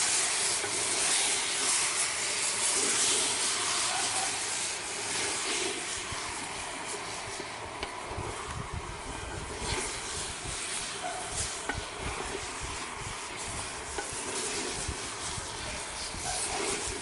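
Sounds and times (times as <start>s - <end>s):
wooden spatula scraping a pot: 0.0s - 8.5s, 9.2s - 17.0s
frying sizzle: 0.0s - 17.0s.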